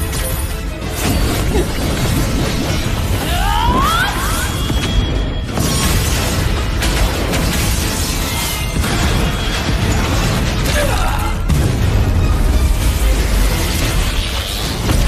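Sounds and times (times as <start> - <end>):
crashing shattering impacts: 0.0 - 15.0
dramatic background music: 0.0 - 15.0.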